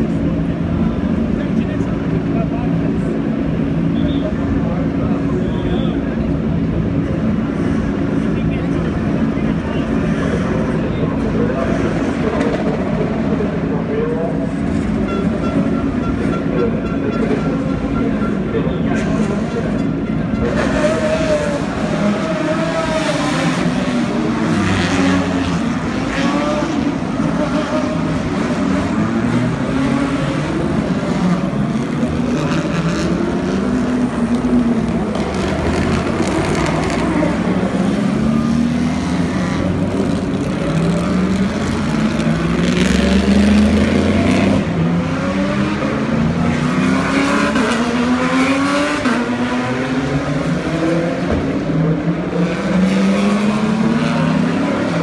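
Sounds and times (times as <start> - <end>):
race cars driving past: 0.0 - 55.0.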